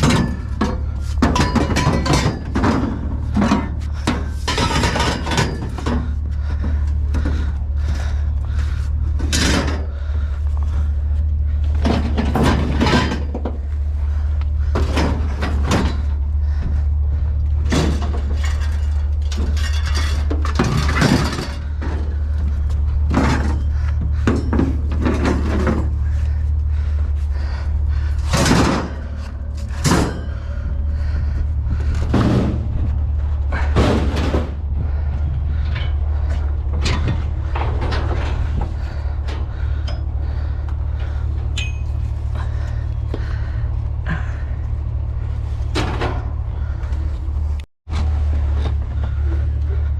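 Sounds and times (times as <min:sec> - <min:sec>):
scrap metal clanks and bangs: 0:00.0 - 0:49.9
steady low hum: 0:00.0 - 0:49.9.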